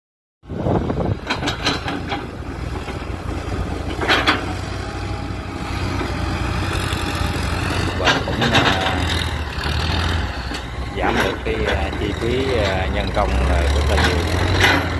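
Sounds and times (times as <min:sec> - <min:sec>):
heavy machinery engine droning: 0:00.4 - 0:14.9.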